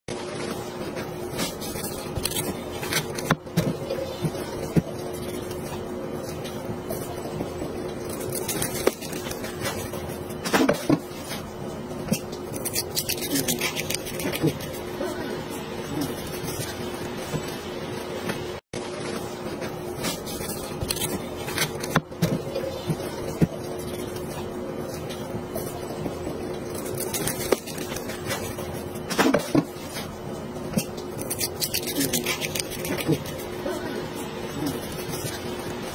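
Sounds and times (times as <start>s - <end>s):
steady background hum: 0.1s - 35.9s.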